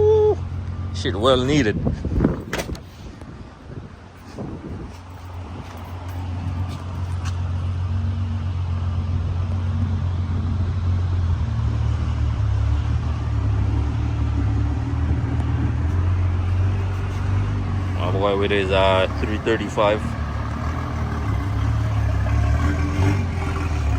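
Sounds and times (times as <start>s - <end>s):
car engine exhaust drone: 0.0s - 23.9s.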